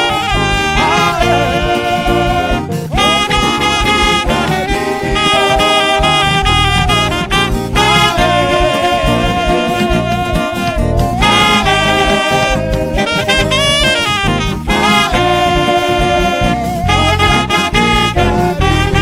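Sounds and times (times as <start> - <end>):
bass and drum backing: 0.0 - 19.0
wavering lead melody: 0.0 - 19.0.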